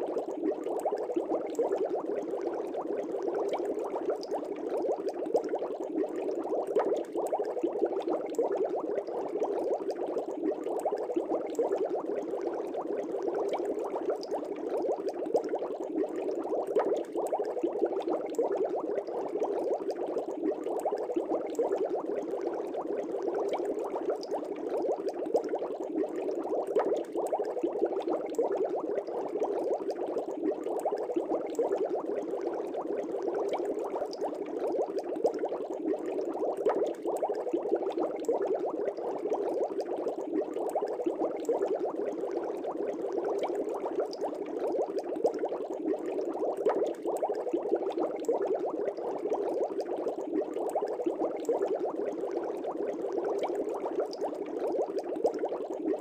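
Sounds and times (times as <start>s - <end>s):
aquarium air bubbles bubbling: 0.0s - 56.0s.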